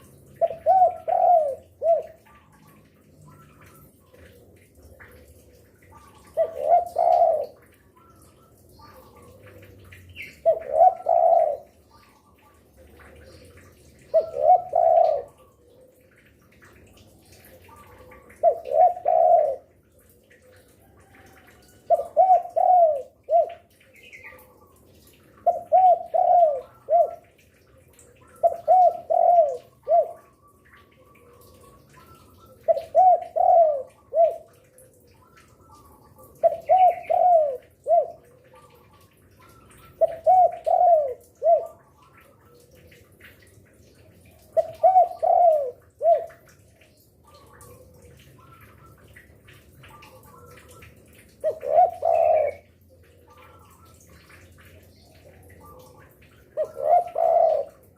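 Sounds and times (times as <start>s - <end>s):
dove cooing: 0.0s - 43.6s, 44.3s - 46.6s, 49.8s - 57.9s.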